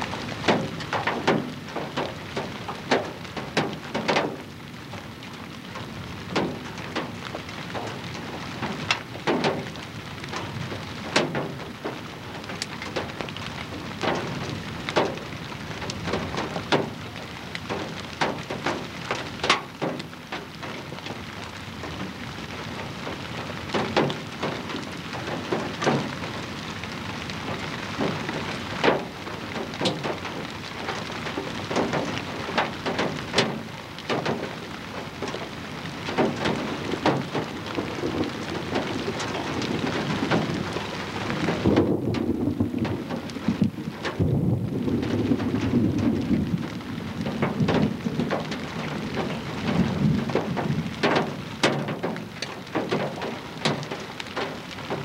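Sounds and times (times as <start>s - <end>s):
wind and rain on microphone: 0.0s - 55.0s.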